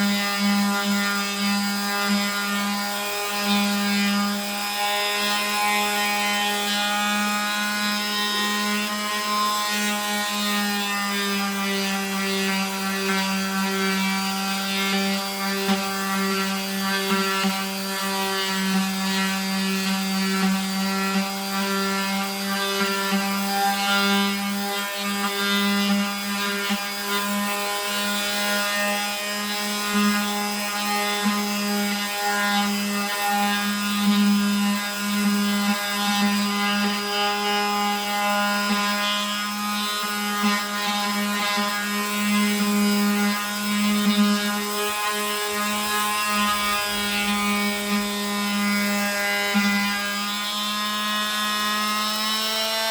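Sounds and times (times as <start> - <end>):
oscillating multi-tool buzzing on wood: 0.0 - 52.9.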